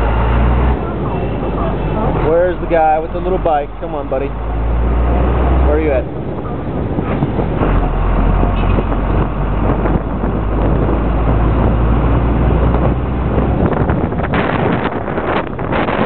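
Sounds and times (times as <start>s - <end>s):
bus ride rumble: 0.0s - 16.0s.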